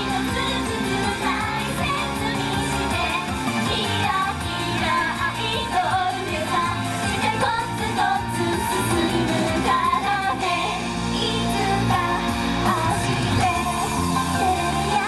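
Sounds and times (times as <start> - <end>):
female voices singing: 0.0 - 15.0
pop backing track with bass: 0.0 - 15.0.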